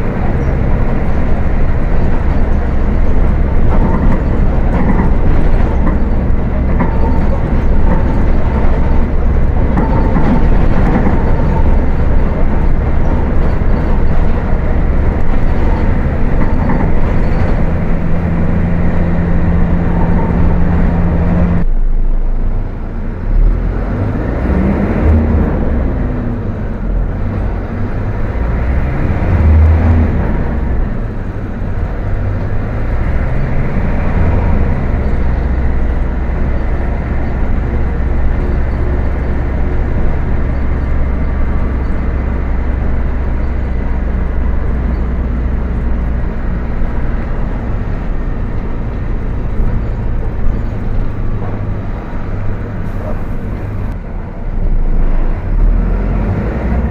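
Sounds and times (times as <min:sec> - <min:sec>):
bus diesel engine drone: 0:00.0 - 0:56.9.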